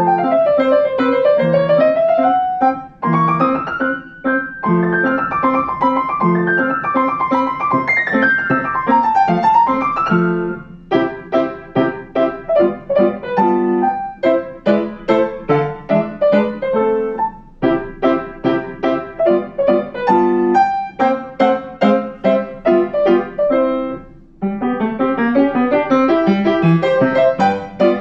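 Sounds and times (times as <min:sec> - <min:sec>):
upright piano playing: 0:00.0 - 0:28.0.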